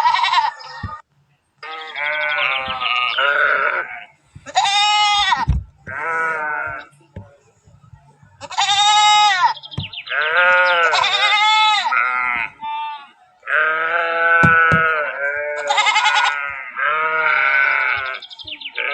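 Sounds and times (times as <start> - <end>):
sheep bleating: 0.0 - 1.0, 1.6 - 7.0, 8.4 - 18.9.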